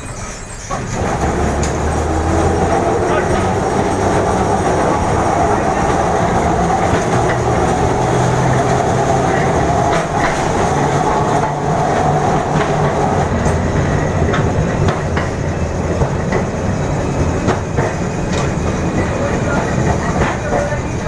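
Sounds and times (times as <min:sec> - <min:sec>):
tram rumbling along track: 0:00.0 - 0:21.0
wheels clacking over rail joints: 0:00.0 - 0:21.0.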